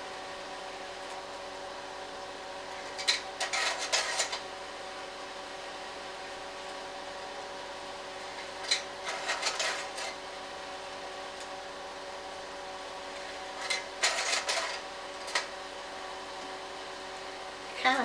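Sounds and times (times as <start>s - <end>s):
fan motor hum: 0.0s - 18.0s.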